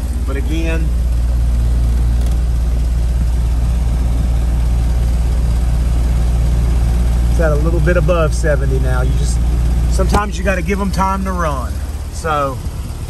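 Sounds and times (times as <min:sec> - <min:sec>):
heat pump unit humming: 0:00.0 - 0:13.0.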